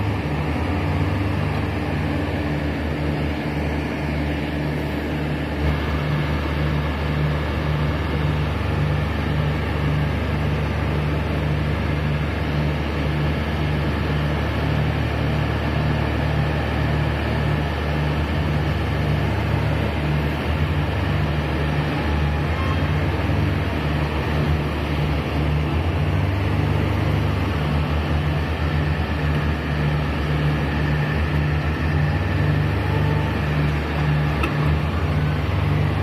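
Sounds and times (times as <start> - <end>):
wheel loader diesel engine: 0.0 - 36.0.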